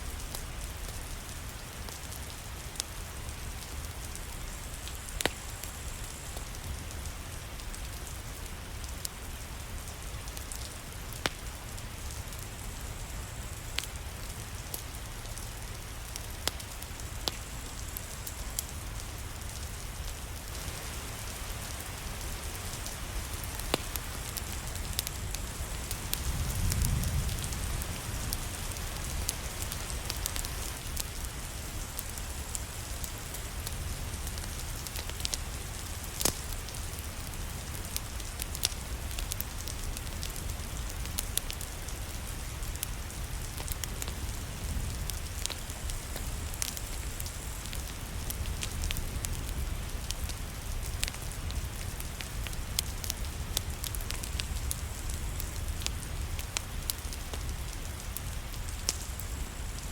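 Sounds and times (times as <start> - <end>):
rain pattering: 0.0 - 59.9
fireplace crackling: 10.2 - 59.9.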